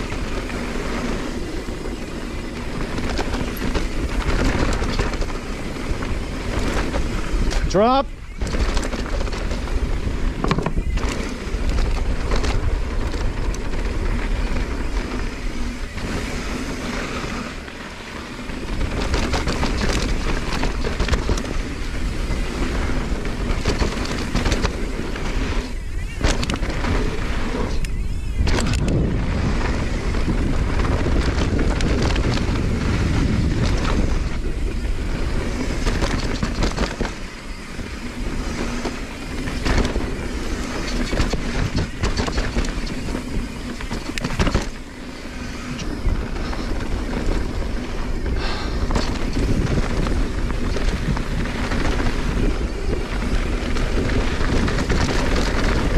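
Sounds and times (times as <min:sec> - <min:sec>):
bike rattling: 0:00.0 - 0:55.9
wind on microphone: 0:00.0 - 0:55.9.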